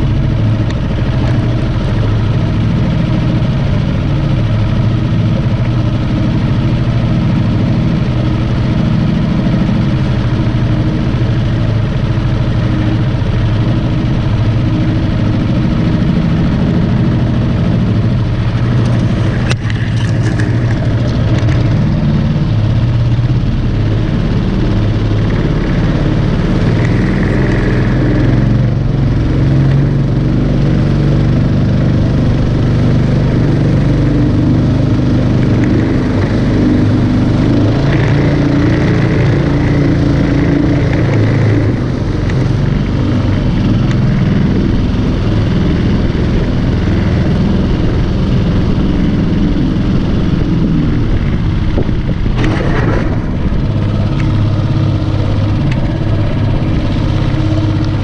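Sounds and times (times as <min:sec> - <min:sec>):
boat motor running: 0:00.0 - 0:58.0.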